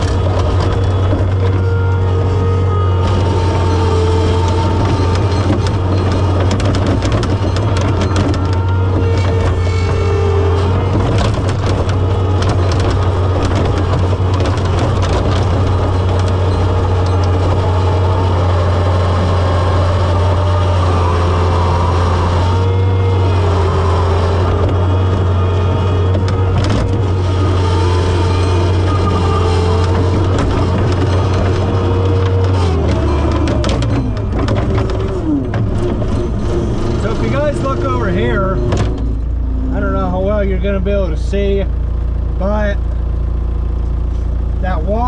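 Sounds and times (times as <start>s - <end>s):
skid steer engine running hard: 0.0s - 45.0s.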